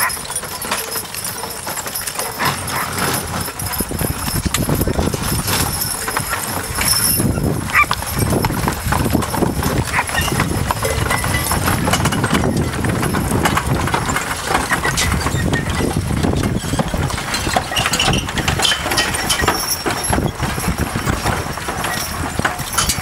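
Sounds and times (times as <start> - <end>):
harness knocking and rattling: 0.0 - 23.0
horse hoofbeats: 0.0 - 23.0
wagon wheels rattling: 0.0 - 23.0.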